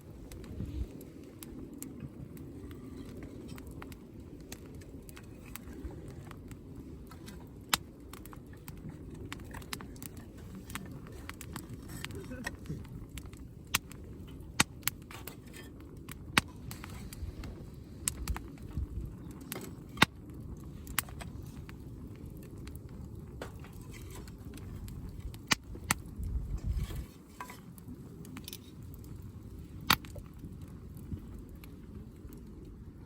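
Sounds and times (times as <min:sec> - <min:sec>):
campfire crackling and popping: 0:00.0 - 0:33.0
steady low rumble: 0:00.0 - 0:33.0.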